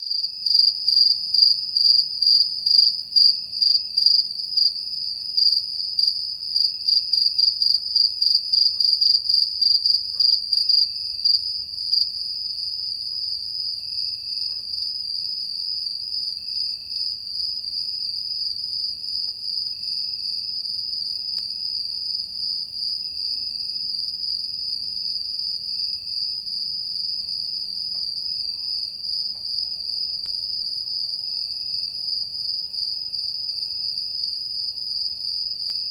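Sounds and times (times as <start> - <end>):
crickets chirping: 0.0 - 35.9
fainter lower cricket chirping: 0.0 - 35.9.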